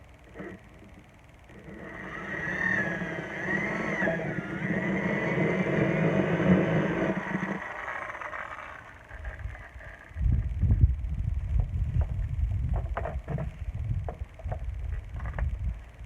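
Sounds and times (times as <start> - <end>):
engine running with wavering pitch: 0.0 - 16.0.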